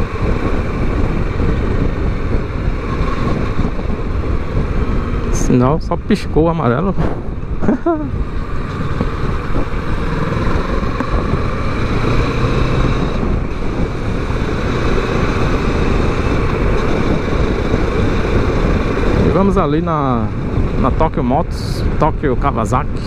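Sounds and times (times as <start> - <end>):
motorcycle engine running: 0.0 - 5.5, 6.8 - 20.8
road noise: 0.0 - 23.0
wind noise: 0.0 - 23.0.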